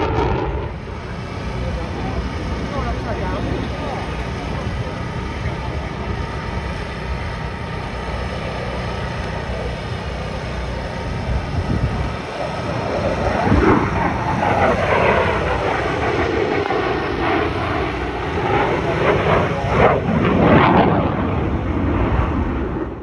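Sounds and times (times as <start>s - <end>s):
fighter jet roaring past: 0.0s - 23.0s.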